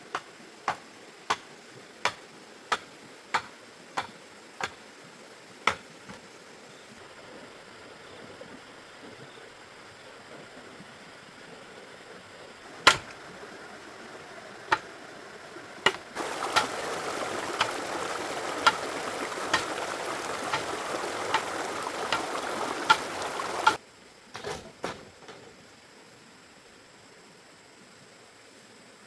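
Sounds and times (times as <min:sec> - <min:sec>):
steady rushing hiss: 0:00.0 - 0:24.3.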